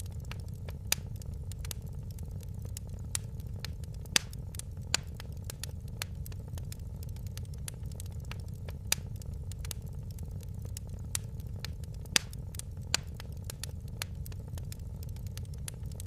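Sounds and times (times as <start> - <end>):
loud fire pops: 0.0 - 16.0
low fire rumble: 0.0 - 16.0
wood fire crackling: 0.0 - 16.0.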